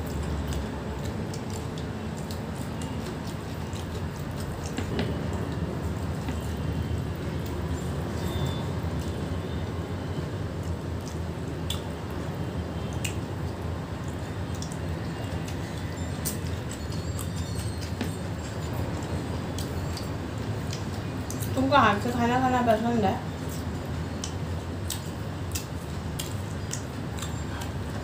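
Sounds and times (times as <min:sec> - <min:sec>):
fingers squishing food: 0:00.0 - 0:09.2, 0:10.6 - 0:21.5, 0:23.3 - 0:28.0
chewing: 0:00.0 - 0:09.6, 0:10.6 - 0:21.6, 0:23.3 - 0:28.0.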